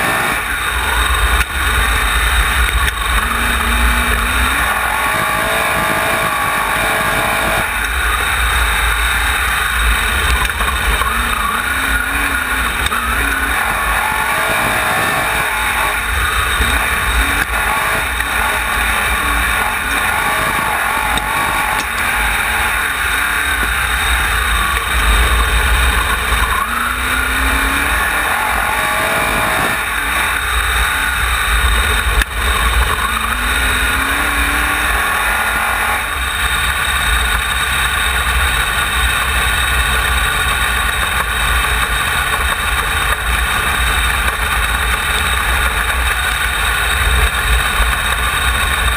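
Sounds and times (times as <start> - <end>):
racing car engine revving: 0.0 - 48.9.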